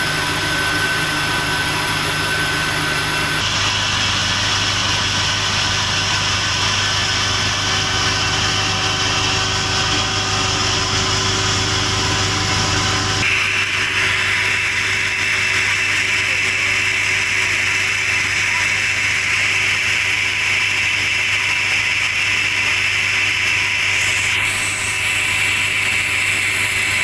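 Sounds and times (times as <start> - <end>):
sawmill machinery drone: 0.0 - 27.0.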